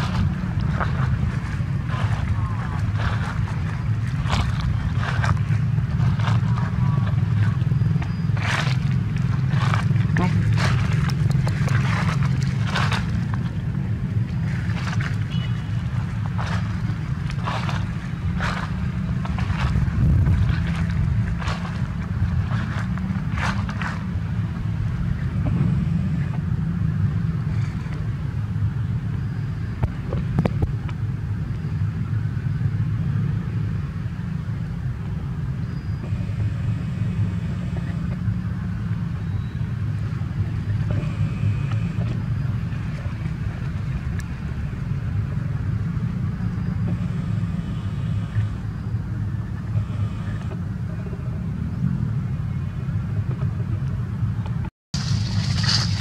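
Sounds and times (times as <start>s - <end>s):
low rumble: 0.0s - 31.5s, 34.8s - 56.0s.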